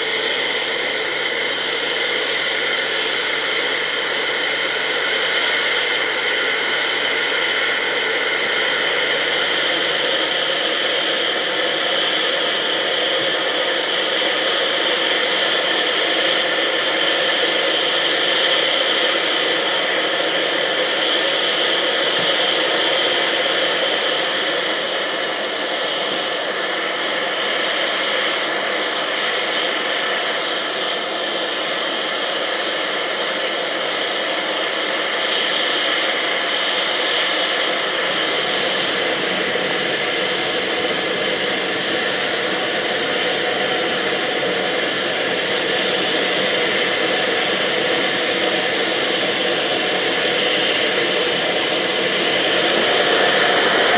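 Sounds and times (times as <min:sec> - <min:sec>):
steam hissing from locomotive: 0:00.0 - 0:53.9.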